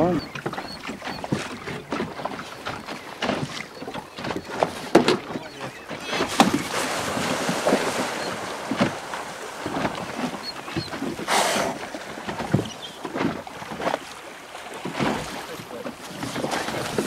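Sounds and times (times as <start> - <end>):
water slapping against hull: 0.0 - 17.0.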